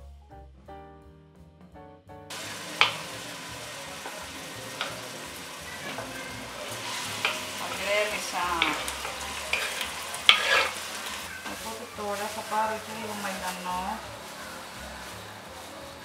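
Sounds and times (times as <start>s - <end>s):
onions sizzling in oil: 2.3s - 16.0s.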